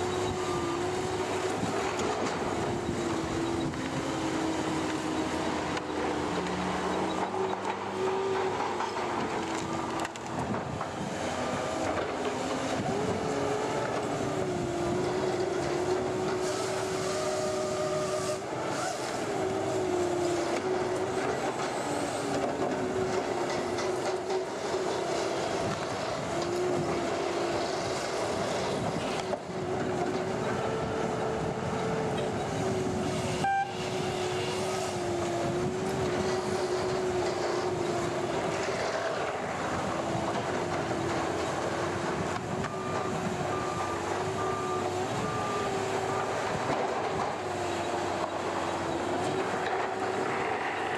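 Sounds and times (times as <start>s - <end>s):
heavy diesel engine under load: 0.0s - 50.9s.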